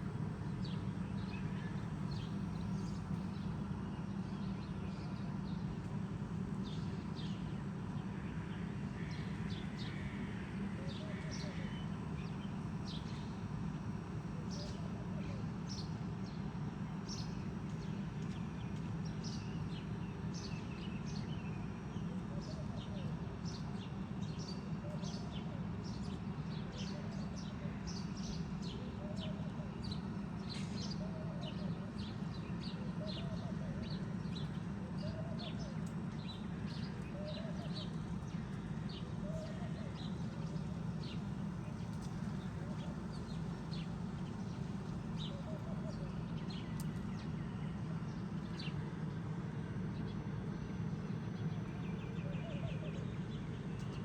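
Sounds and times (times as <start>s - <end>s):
low city rumble: 0.0s - 54.0s.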